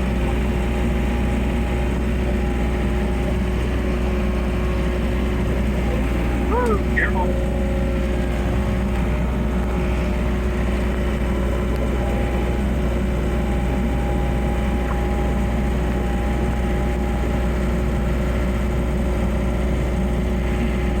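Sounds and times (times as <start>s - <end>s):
loader engine droning: 0.0s - 21.0s.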